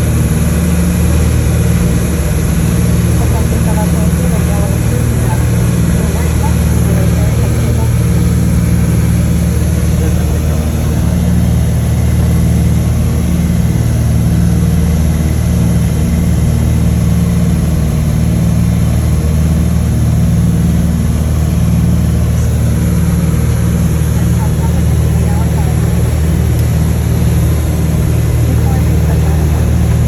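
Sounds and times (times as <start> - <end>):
aircraft piston engines droning: 0.0 - 30.0.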